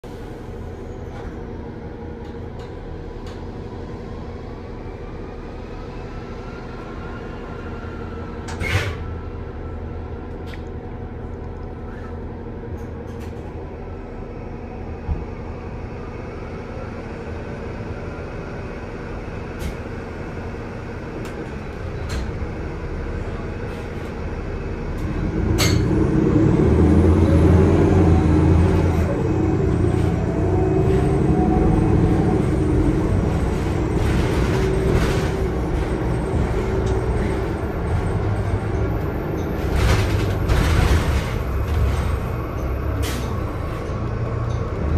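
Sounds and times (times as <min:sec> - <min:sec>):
bus engine running: 0:00.0 - 0:44.9.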